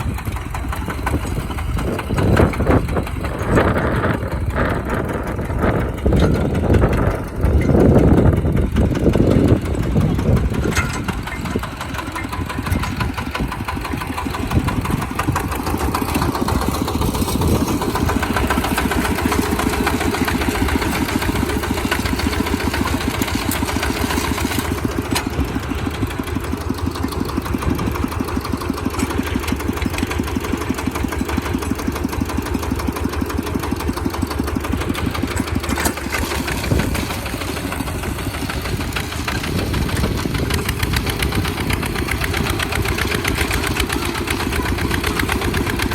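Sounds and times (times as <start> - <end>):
tractor engine puttering: 0.0 - 45.9.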